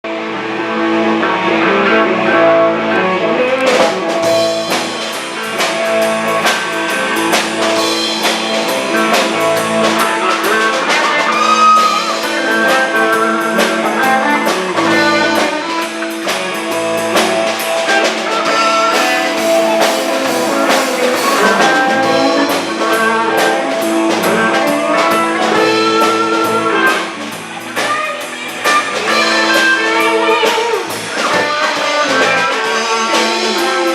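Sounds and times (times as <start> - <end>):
electric guitar lines: 0.0 - 33.9
drum kit: 0.1 - 33.9.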